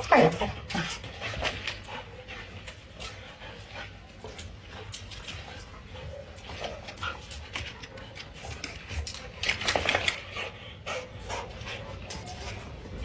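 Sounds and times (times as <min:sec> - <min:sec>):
dogs play-fighting vocalizations: 0:00.0 - 0:13.0.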